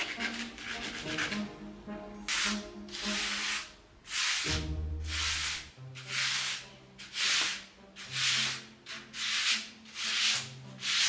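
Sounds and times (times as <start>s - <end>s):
hand scraping coarse canvas: 0.0s - 1.5s, 2.3s - 11.0s.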